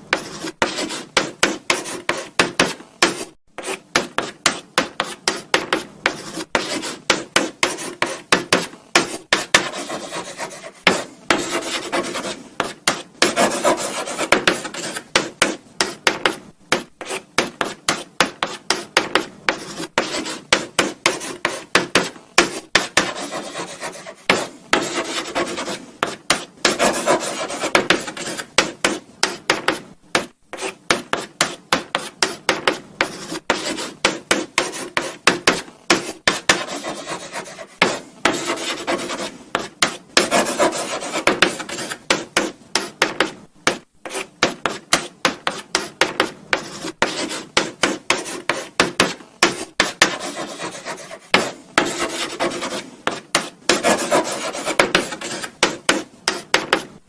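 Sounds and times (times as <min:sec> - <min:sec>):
chalk scratching on blackboard: 0:00.1 - 0:57.0.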